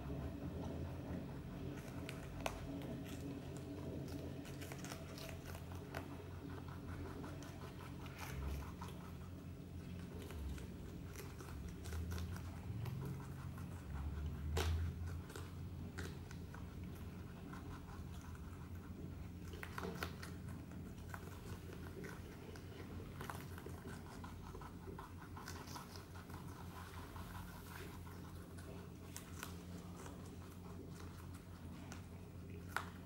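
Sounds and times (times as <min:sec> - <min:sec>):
rabbits chewing crunchy food: 0:00.0 - 0:33.0
steady low hum: 0:00.0 - 0:33.0.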